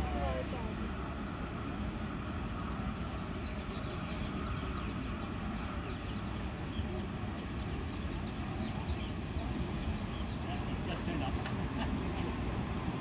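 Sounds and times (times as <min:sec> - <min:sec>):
electric trains rumbling: 0:00.0 - 0:13.0
faint voices: 0:00.0 - 0:13.0.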